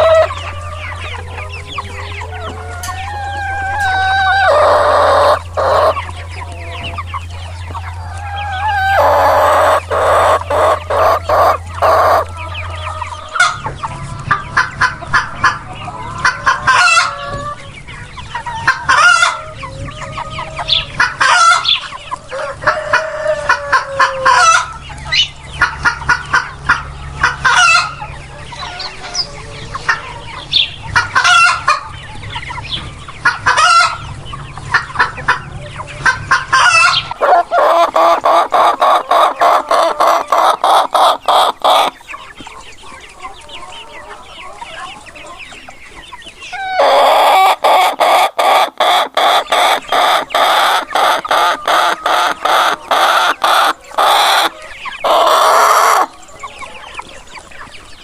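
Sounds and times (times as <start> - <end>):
roosters crowing: 0.0 - 32.0, 32.6 - 58.0
chickens clucking: 0.0 - 58.0.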